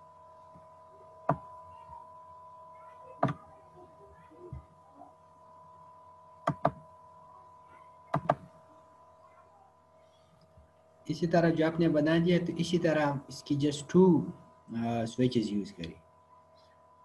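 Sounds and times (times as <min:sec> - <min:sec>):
steady electrical whine: 0:00.0 - 0:17.0.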